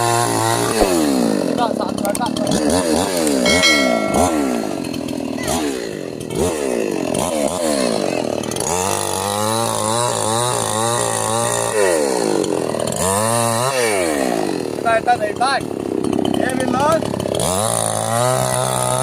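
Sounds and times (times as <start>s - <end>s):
chainsaw engine revving: 0.0s - 3.3s, 5.5s - 19.0s.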